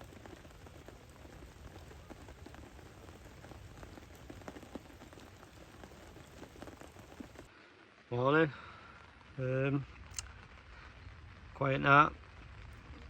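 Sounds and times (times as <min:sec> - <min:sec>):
rain falling: 0:00.0 - 0:13.0
raindrops tapping: 0:00.0 - 0:13.0.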